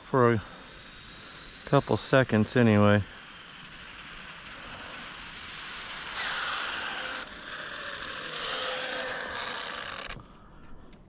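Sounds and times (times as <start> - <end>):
faint electric motor whine: 0.0 - 11.0
rc car drivetrain and tyre noise: 0.0 - 11.0.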